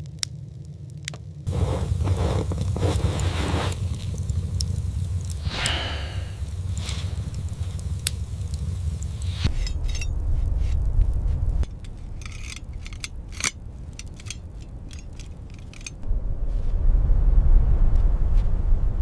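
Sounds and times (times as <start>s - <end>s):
short crackles and crunches: 0.0s - 16.0s
low wind rumble: 0.0s - 19.0s.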